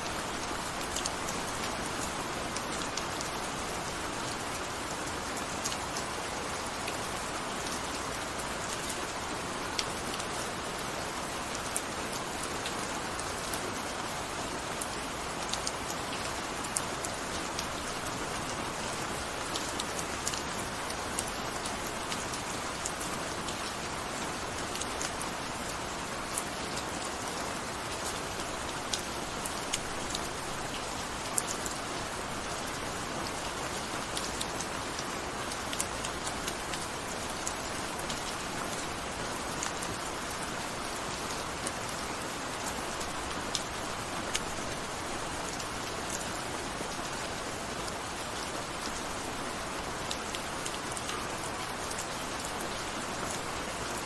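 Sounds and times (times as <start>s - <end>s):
raindrops ticking on a surface: 0.0s - 54.0s
steady rain hiss: 0.0s - 54.0s.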